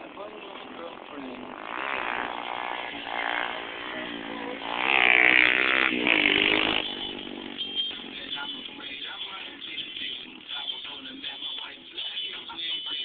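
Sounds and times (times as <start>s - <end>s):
pit bike engine revving: 0.0s - 11.4s.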